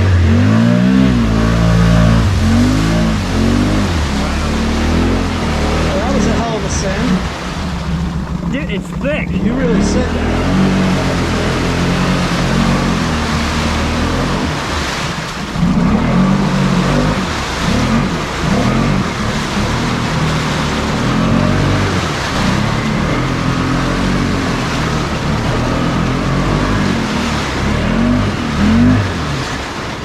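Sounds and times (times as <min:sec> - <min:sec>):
quad bike engine revving: 0:00.0 - 0:30.0
tyres churning through mud: 0:00.0 - 0:30.0.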